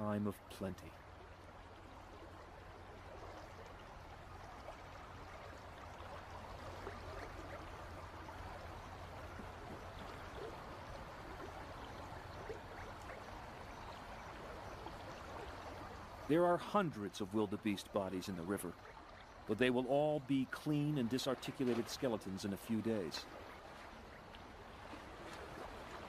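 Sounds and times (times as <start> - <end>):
river water running and lapping: 0.0 - 26.0
small water splashes: 0.0 - 26.0.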